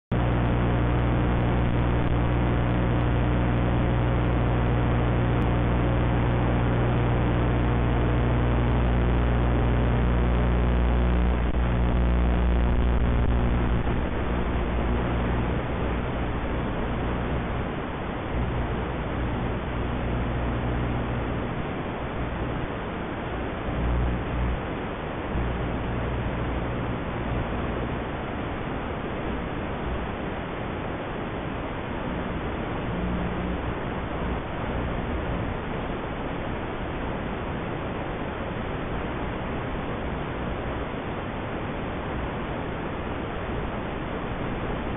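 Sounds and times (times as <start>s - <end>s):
low even hum: 0.0s - 44.9s
video static hiss: 0.0s - 44.9s.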